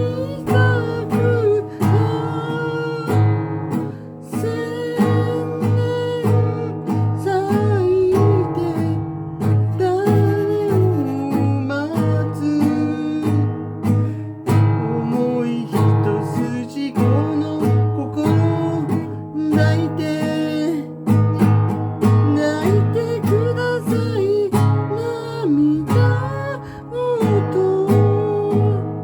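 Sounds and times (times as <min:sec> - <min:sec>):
strummed acoustic guitar: 0:00.0 - 0:29.0.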